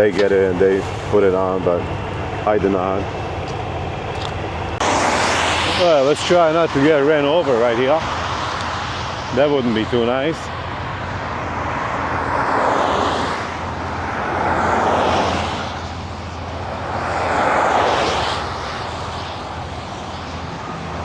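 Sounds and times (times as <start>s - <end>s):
diesel truck engines humming: 0.0s - 21.0s
trucks passing by: 0.0s - 21.0s.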